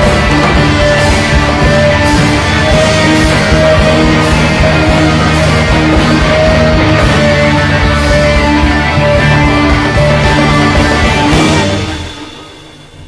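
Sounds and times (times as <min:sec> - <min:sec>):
drum hits: 0:00.0 - 0:13.0
rock band droning notes: 0:00.0 - 0:13.0.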